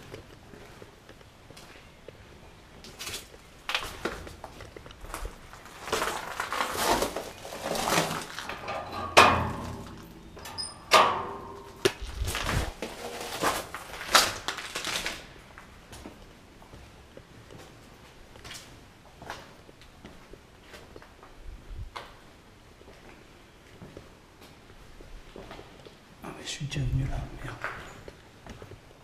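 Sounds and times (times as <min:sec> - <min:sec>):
footsteps crunching over rubble: 0:00.0 - 0:10.7, 0:11.5 - 0:26.1, 0:27.1 - 0:29.0.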